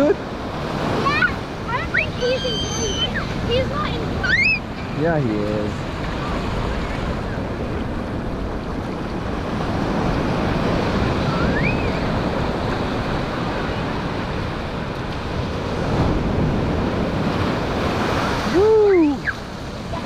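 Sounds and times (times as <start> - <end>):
ocean surf washing up beach: 0.0 - 20.0.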